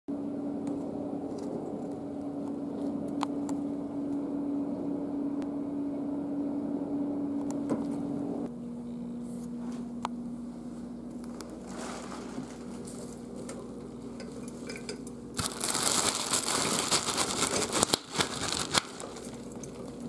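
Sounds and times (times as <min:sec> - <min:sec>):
steady mechanical hum: 0:00.1 - 0:20.0.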